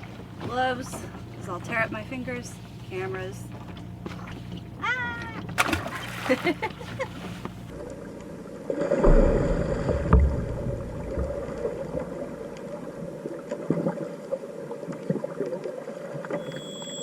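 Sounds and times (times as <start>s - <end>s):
water sloshing and bubbling: 0.0s - 17.0s.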